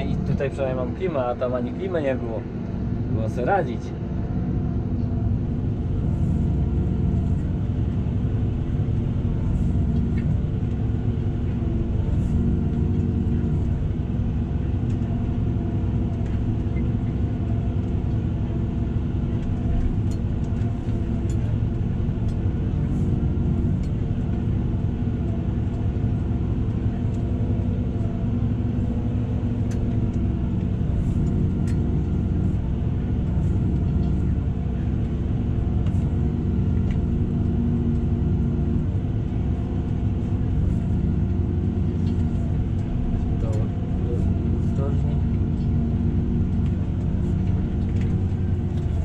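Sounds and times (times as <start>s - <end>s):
tractor engine under load: 0.0s - 49.0s.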